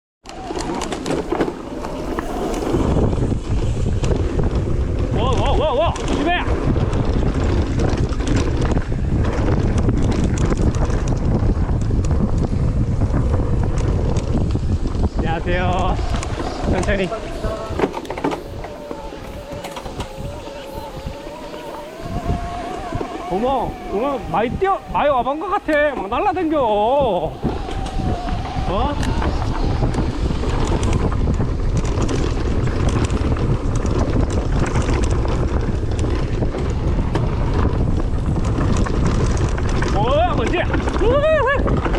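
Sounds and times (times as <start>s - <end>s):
bike rattling on rough trail: 0.2s - 41.9s
wind buffeting microphone: 0.2s - 41.9s.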